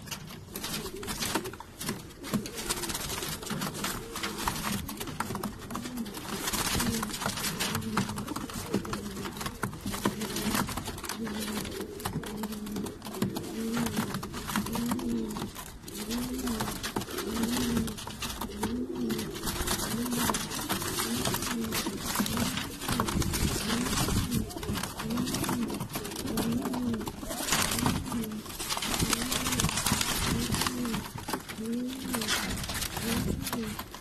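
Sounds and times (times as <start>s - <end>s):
pigeons cooing: 0.0s - 34.0s
wings fluttering: 0.0s - 34.0s.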